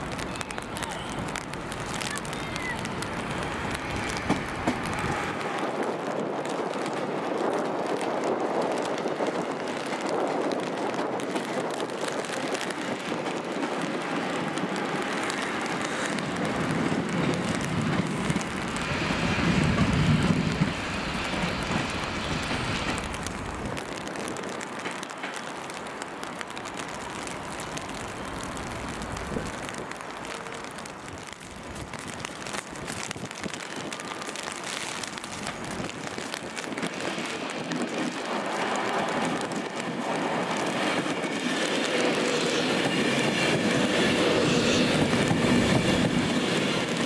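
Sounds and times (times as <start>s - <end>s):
gusting wind: 0.0s - 47.0s
rain: 0.0s - 47.0s.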